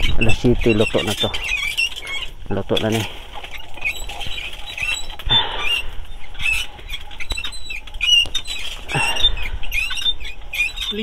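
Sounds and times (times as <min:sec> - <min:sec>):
birds chirping: 0:00.0 - 0:11.0
charcoal fire crackling and popping: 0:00.0 - 0:11.0.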